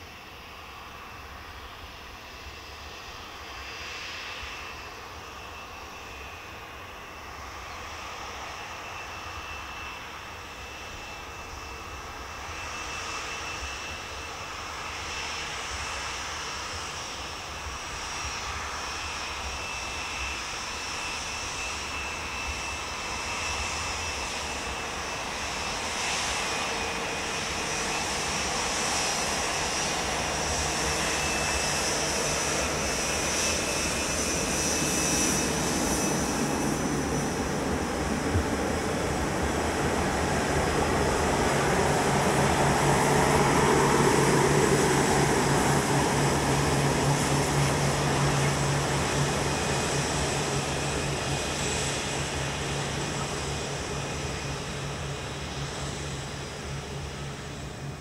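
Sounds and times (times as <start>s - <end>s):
jet engines whining at idle: 0.0s - 58.0s.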